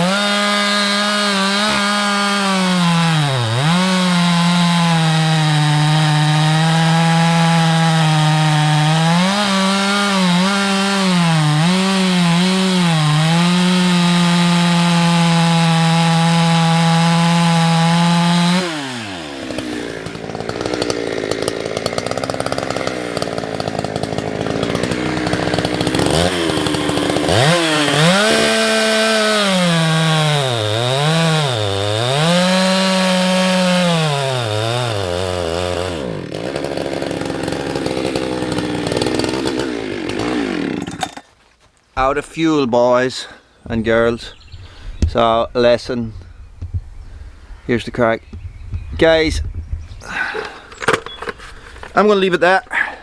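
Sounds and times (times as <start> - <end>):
chainsaw cutting wood: 0.0 - 41.7, 47.8 - 53.0.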